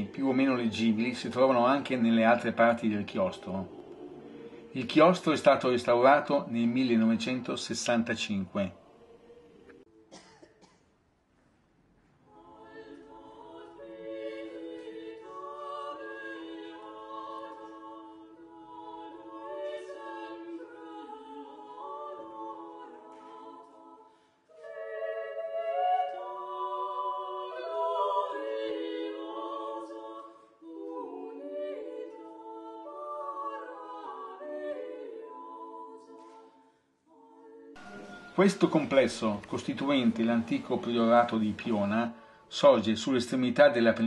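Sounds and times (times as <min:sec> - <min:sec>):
unaccompanied choir singing: 0:00.0 - 0:10.3, 0:12.2 - 0:44.0.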